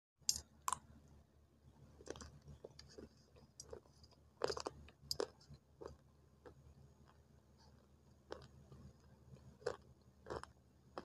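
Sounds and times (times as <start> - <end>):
faint low hum: 0.2 - 11.0
clay being chewed crunching: 2.0 - 11.0.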